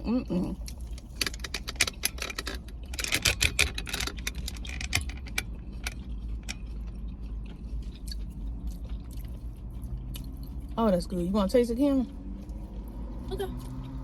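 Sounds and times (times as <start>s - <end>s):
crunching and chewing food: 0.0s - 14.0s.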